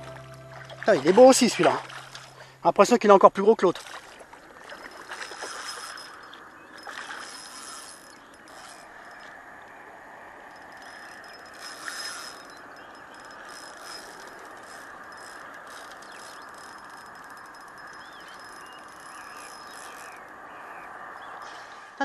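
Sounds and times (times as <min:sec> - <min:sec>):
fishing reel whirring and clicking: 0:03.7 - 0:21.6.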